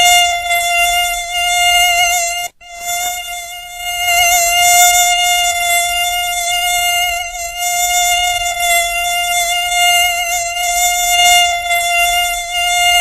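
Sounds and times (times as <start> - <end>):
mosquito buzzing: 0.0 - 13.0.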